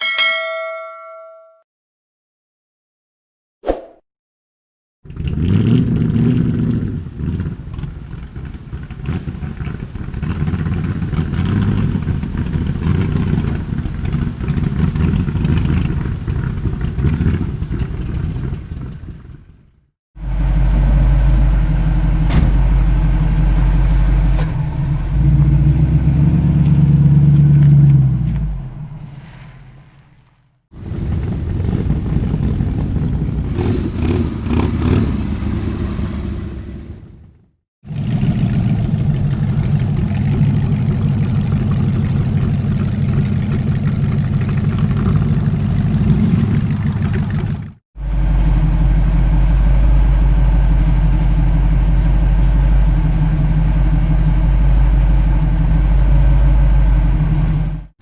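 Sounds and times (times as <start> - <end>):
old car engine running unevenly: 6.0 - 29.4, 30.8 - 58.0.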